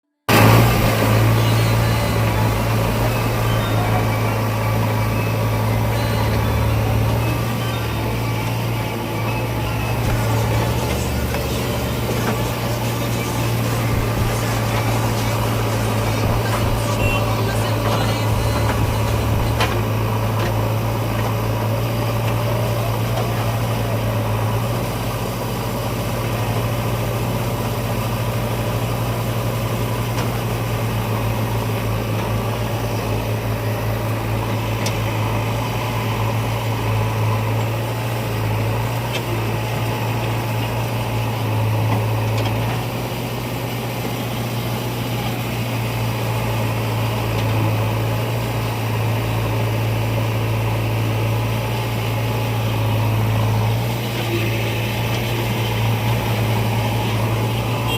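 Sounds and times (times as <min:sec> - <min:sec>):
tractor diesel engine humming: 0:00.3 - 0:57.9.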